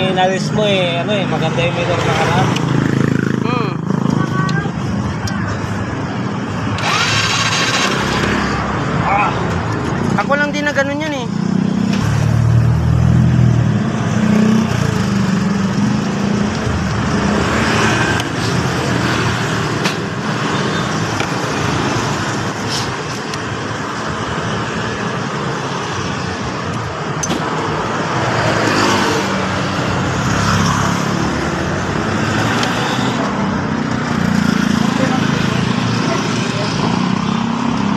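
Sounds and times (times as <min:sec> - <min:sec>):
street traffic noise: 0:00.0 - 0:37.9.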